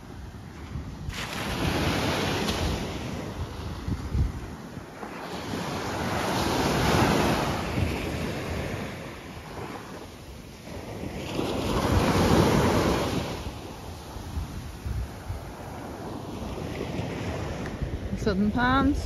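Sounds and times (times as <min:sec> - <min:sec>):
small waves breaking on sandy shore: 0:00.0 - 0:19.0
wind rumbling on microphone: 0:00.0 - 0:19.0.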